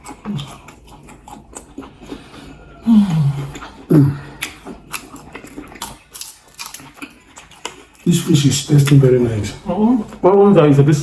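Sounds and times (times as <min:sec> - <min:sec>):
wet chewing: 0:00.0 - 0:10.7.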